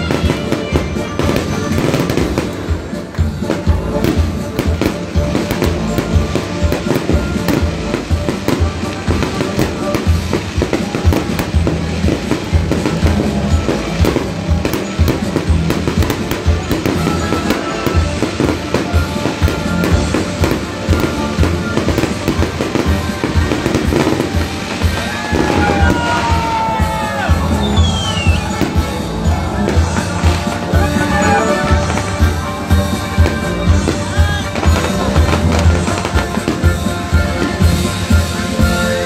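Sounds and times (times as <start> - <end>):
fireworks bangs and crackles: 0.0 - 39.0
music playing: 0.0 - 39.0.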